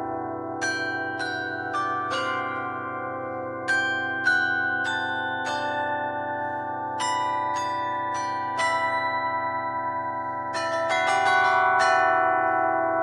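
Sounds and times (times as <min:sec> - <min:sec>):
flat bells ringing melody: 0:00.0 - 0:13.0.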